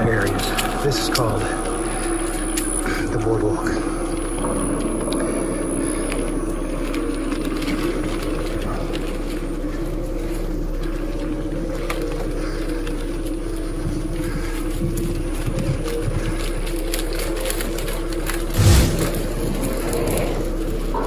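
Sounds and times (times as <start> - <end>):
bike tyres rolling: 0.0 - 21.0.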